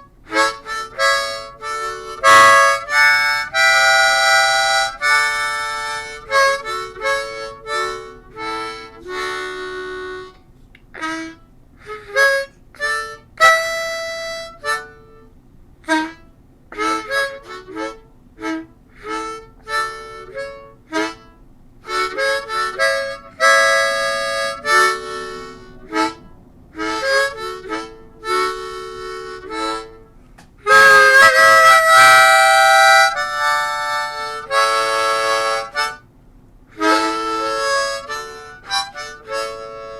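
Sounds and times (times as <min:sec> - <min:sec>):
blues harmonica: 0:00.0 - 0:36.1, 0:36.7 - 0:39.9.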